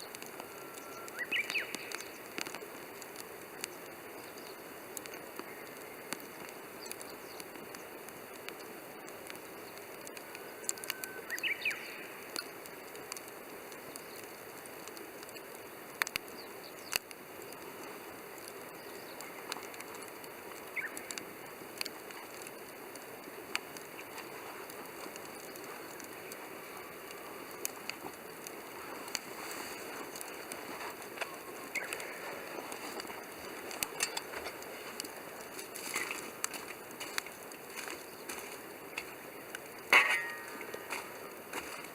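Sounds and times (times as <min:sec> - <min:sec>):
campfire hissing: 0:00.0 - 0:41.9
fire crackling and popping: 0:00.0 - 0:41.9.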